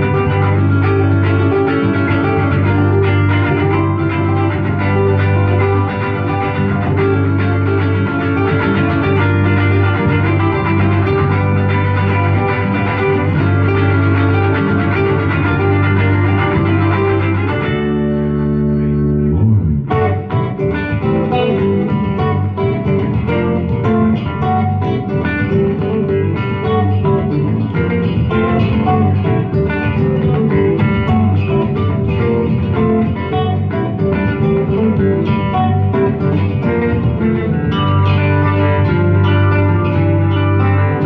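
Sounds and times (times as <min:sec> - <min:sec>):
guitars playing instrumental: 0:00.0 - 0:41.0.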